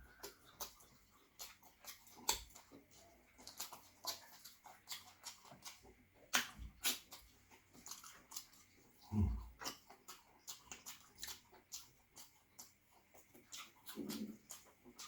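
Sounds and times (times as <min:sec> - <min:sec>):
chewing and mouth sounds: 0:00.0 - 0:15.0.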